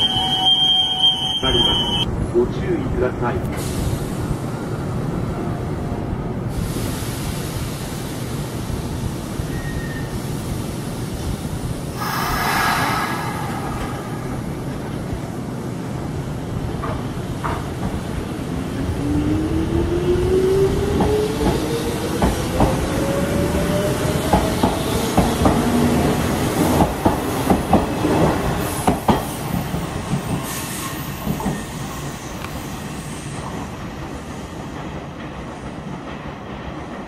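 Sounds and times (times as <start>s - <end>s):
train rumble: 1.5s - 37.0s.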